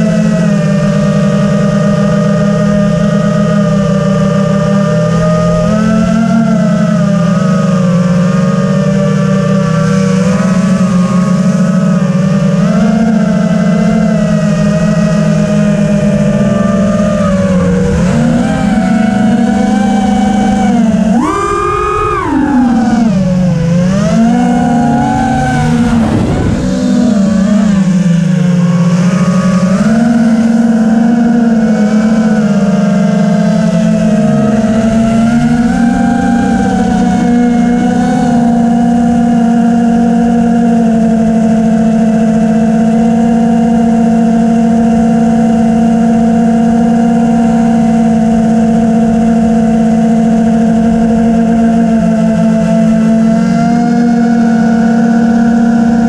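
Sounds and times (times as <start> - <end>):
drone motors buzzing: 0.0 - 56.0.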